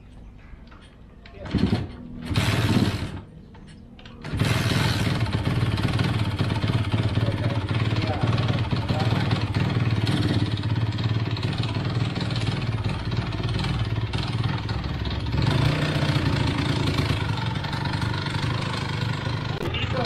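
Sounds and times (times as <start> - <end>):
two-stroke motorcycle engine idling: 1.5 - 3.3, 4.2 - 20.0.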